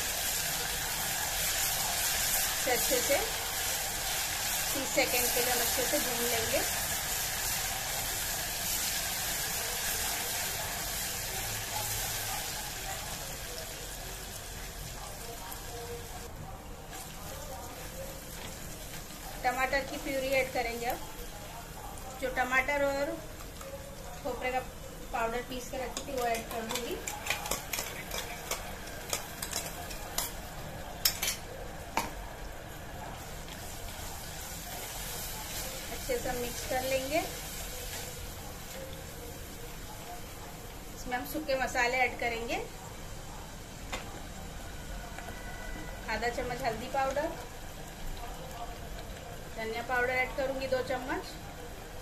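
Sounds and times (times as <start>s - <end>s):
onions sizzling in hot oil: 0.0s - 52.0s.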